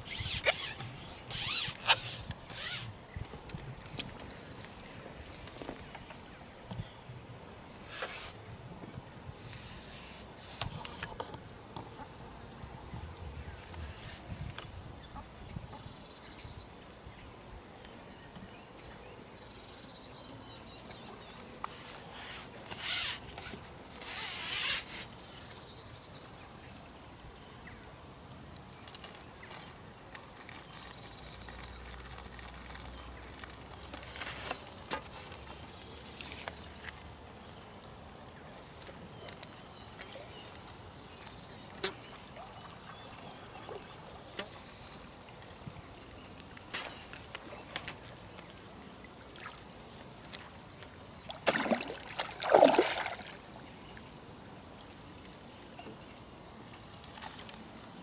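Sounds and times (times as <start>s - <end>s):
faint steady background hiss: 0.0s - 58.0s.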